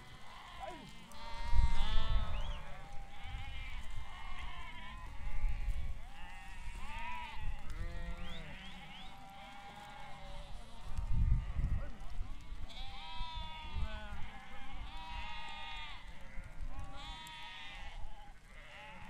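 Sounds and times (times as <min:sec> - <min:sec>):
sheep bleating: 0:00.0 - 0:19.0.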